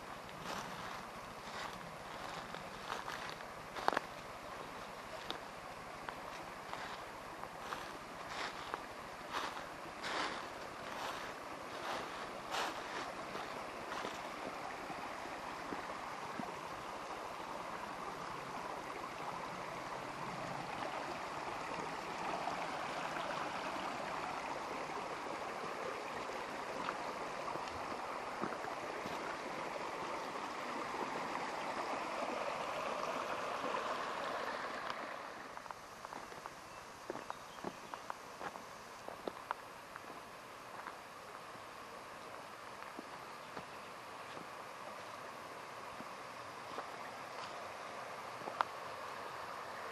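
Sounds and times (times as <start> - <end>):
stream babbling over stones: 0.0 - 49.9.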